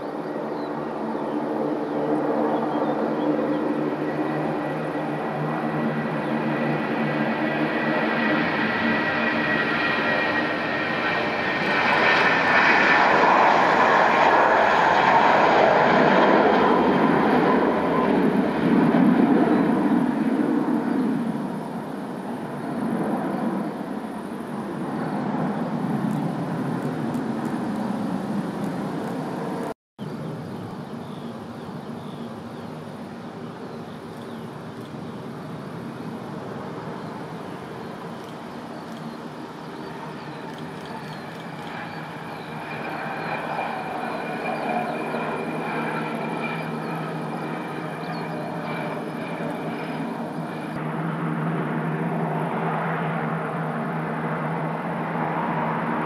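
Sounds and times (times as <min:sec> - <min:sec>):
jet engines roaring at takeoff: 0:00.0 - 0:56.0
jet rolling on runway: 0:00.0 - 0:56.0.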